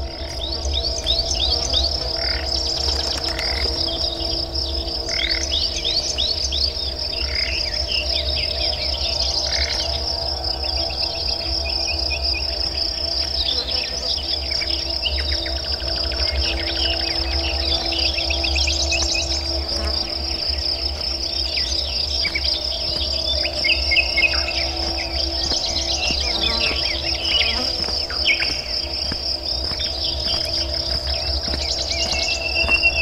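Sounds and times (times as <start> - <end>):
birds chirping: 0.0 - 33.0
high insect trill: 0.0 - 33.0.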